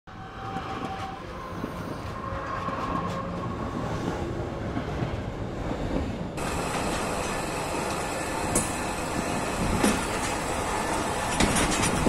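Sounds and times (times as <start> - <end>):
train rumbling on rails: 0.1 - 12.0.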